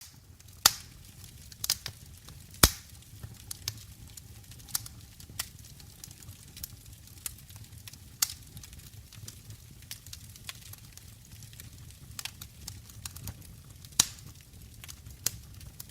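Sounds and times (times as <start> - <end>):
low rumble of flames: 0.0 - 15.9
wood fire crackling and popping: 0.0 - 15.9.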